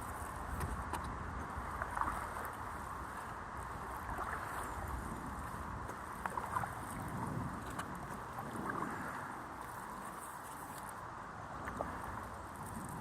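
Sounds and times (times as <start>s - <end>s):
wind buffeting microphone: 0.0s - 9.6s, 11.5s - 13.0s
paddle splashing water: 0.0s - 13.0s.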